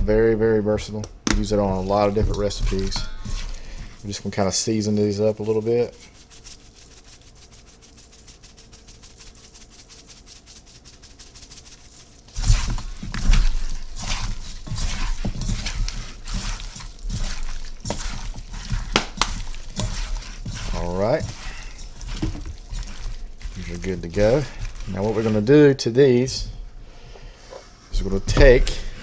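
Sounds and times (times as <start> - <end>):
wet wings tossed in bowl: 1.4 - 26.4
dry rub pattering on chicken: 1.5 - 26.4.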